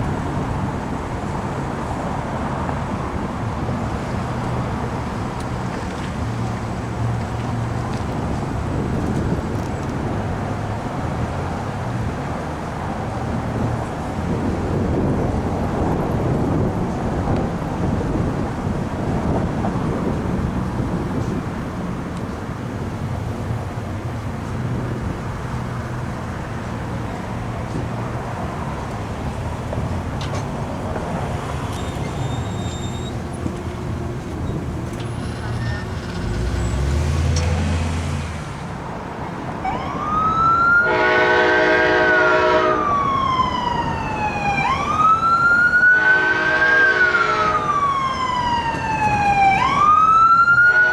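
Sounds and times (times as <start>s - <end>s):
vehicle rumble and road noise: 0.0s - 50.9s.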